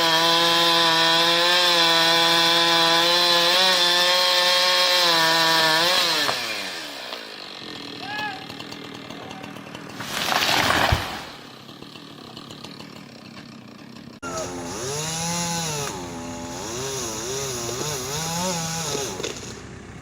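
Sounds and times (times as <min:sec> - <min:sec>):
chainsaw engine cutting: 0:00.0 - 0:20.0.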